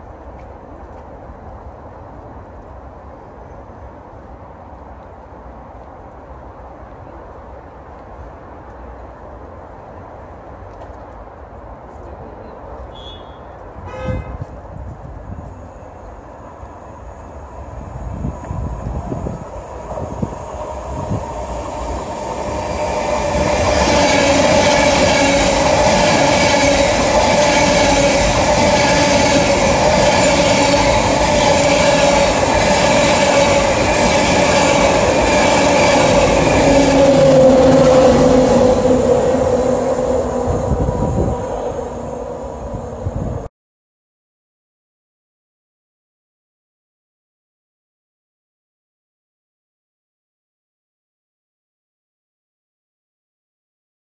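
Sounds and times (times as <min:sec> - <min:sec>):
train passing at speed: 0:00.0 - 0:43.5.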